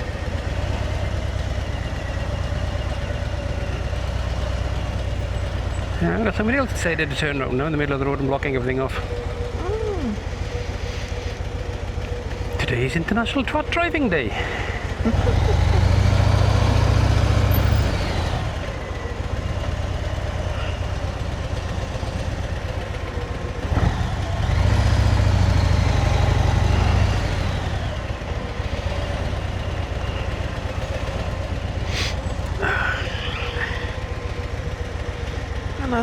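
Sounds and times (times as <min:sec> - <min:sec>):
motorcycle engine rumble: 0:00.0 - 0:36.0.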